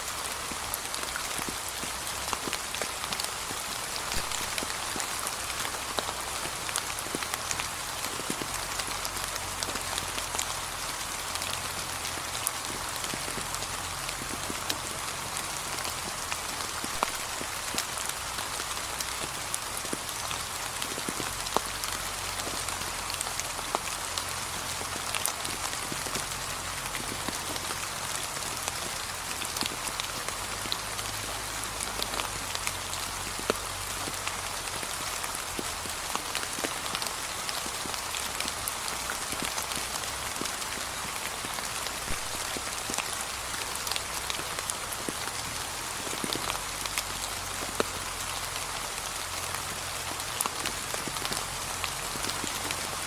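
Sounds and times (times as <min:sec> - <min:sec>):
rain falling on leaves: 0:00.0 - 0:53.0.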